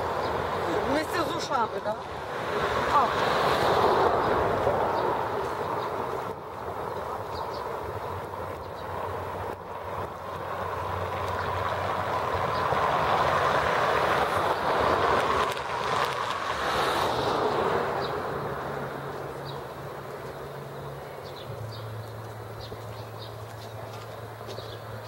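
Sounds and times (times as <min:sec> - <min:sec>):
car driving past on cobblestones: 0:00.0 - 0:25.0
low hum of traffic: 0:00.0 - 0:25.0.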